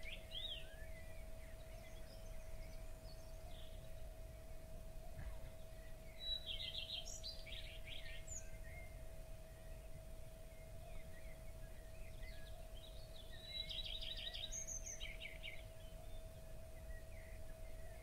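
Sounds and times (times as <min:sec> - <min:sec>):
faint steady hum: 0:00.0 - 0:18.0
small birds chirping: 0:00.0 - 0:18.0.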